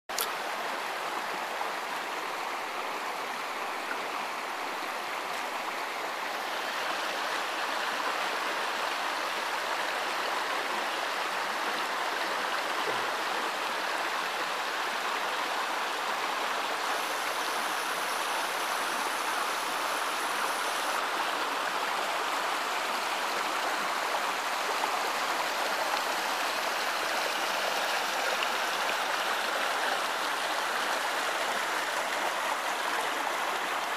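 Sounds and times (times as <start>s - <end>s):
brook water rushing and splashing: 0.1s - 33.9s.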